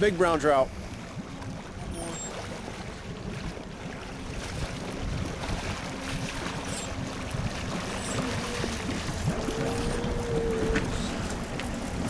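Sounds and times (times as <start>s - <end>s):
boat motor running: 0.0s - 12.0s
water washing past hull: 0.0s - 12.0s
wind buffeting microphone: 0.0s - 12.0s.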